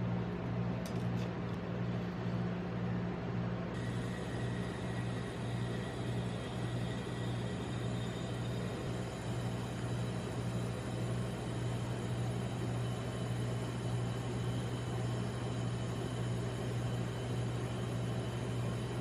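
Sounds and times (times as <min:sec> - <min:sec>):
low machine hum: 0:00.0 - 0:19.0
even hiss: 0:03.8 - 0:19.0.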